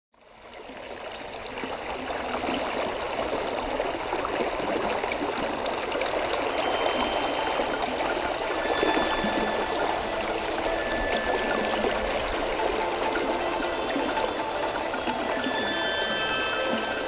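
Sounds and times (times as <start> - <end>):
waterfall rushing water: 3.0 - 17.0.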